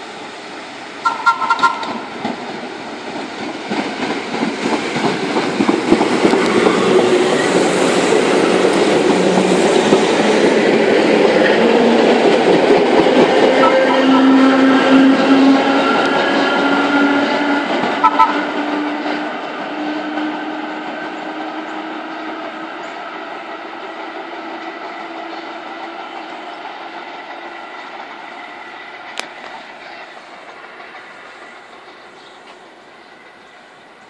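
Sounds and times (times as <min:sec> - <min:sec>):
subway train running on track: 0:00.0 - 0:34.0.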